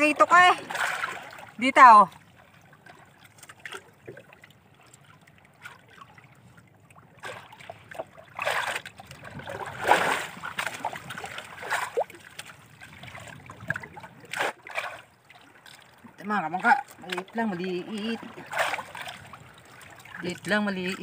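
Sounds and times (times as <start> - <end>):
water lapping against boat hull: 0.0 - 21.0.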